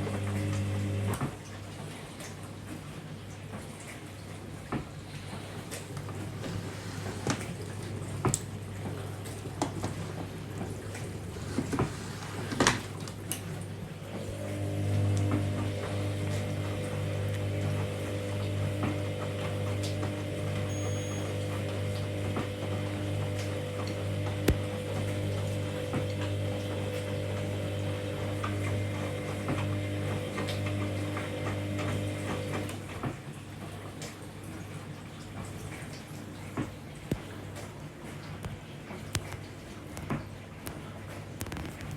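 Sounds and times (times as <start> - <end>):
washing machine motor hum: 0.0 - 36.3.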